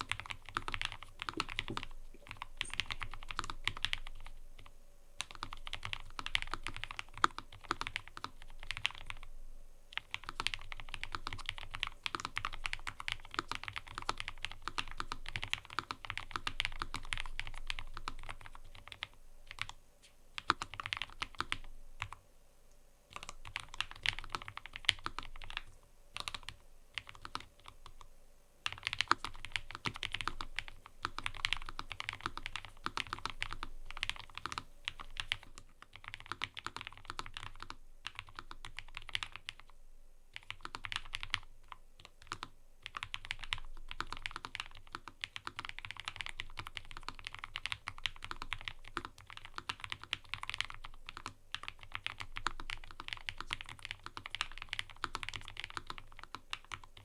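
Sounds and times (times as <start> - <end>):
mechanical keyboard typing: 0.0 - 9.3, 9.9 - 19.8, 20.4 - 22.2, 23.1 - 28.0, 28.7 - 39.6, 40.4 - 57.0.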